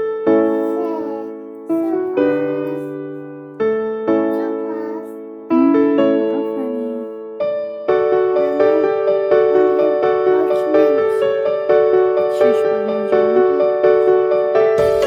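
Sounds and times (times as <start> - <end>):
electric piano chords: 0.0 - 15.0.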